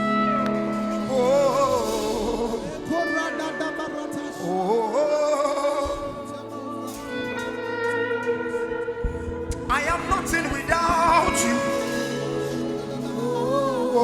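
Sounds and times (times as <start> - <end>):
held backing chords: 0.0 - 14.0
person singing wavering vocal runs: 0.0 - 14.0.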